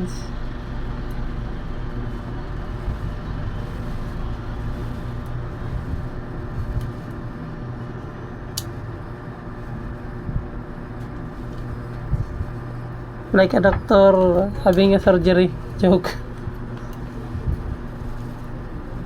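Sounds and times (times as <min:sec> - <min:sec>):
background hum and rumble: 0:00.0 - 0:19.0.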